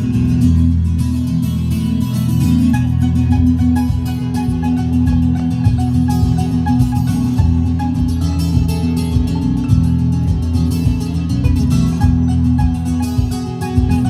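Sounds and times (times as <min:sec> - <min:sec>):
heavy bass line: 0:00.0 - 0:14.0
plucked guitar: 0:00.0 - 0:14.0.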